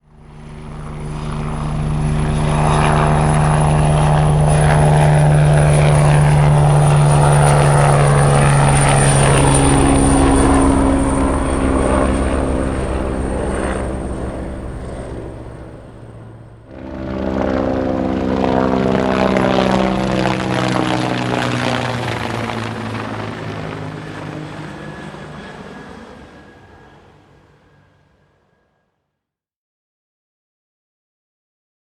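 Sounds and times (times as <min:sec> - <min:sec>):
helicopter flying past: 0:00.0 - 0:28.9.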